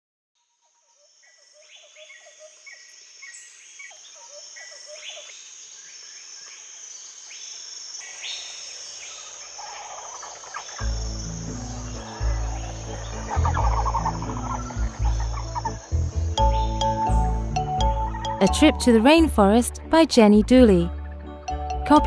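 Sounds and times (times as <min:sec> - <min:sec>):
bird calls and chirps: 0:00.4 - 0:18.5
high insect drone: 0:00.5 - 0:18.5.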